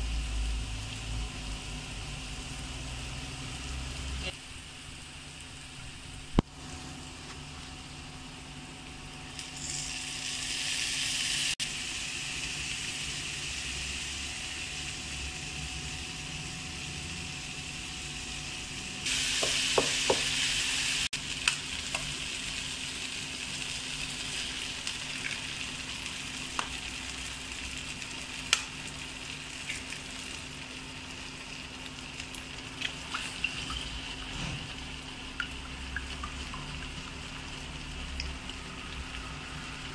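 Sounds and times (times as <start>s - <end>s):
vegetables sizzling in a wok: 0.0s - 39.9s.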